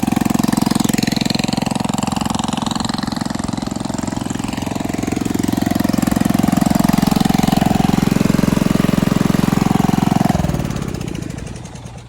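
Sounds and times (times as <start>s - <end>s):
engine running with fast pulse: 0.0s - 12.0s.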